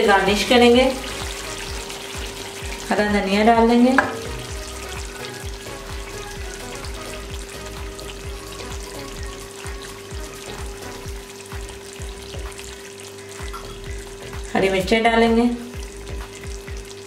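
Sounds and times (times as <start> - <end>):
gravy sizzling in a wok: 0.0 - 17.0
background music with a beat: 1.0 - 2.9, 3.6 - 14.6, 15.6 - 17.0.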